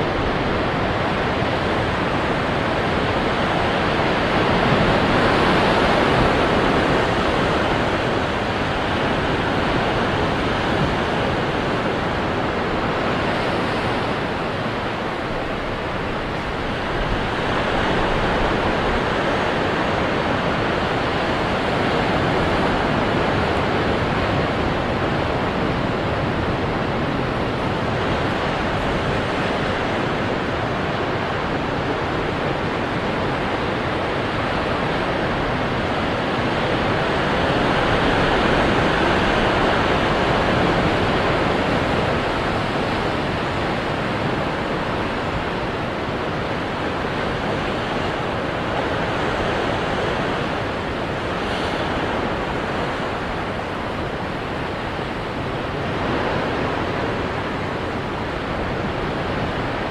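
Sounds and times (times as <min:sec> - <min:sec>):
ocean waves crashing on rocks: 0:00.0 - 0:59.9.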